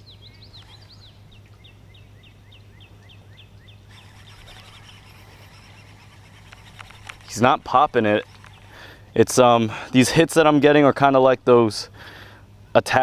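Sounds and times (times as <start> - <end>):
songbird singing: 0.0 - 11.0
steady low hum: 0.0 - 12.7.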